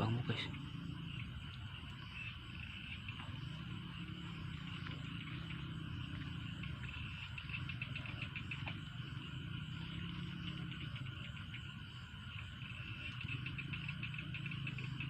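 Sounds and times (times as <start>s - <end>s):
frogs calling: 0.0s - 15.0s
insects trilling: 0.0s - 15.0s
low steady drone: 0.0s - 15.0s.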